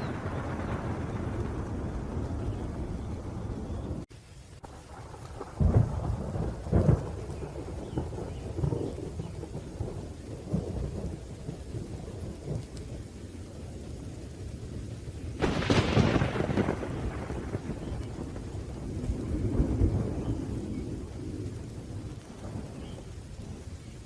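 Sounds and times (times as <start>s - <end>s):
sharp thunderclap: 0.0s - 4.0s, 4.7s - 13.0s, 15.3s - 23.6s
low rolling thunder: 0.0s - 24.0s
rain: 0.0s - 24.0s.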